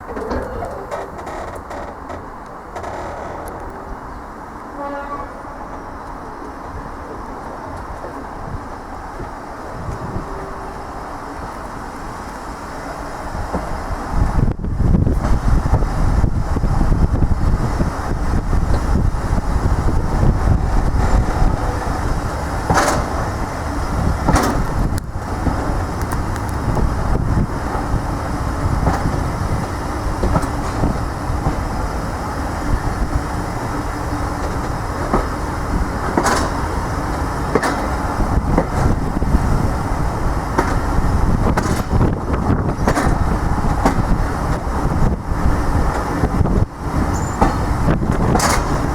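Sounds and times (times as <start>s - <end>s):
train rumbling on rails: 0.0s - 48.9s.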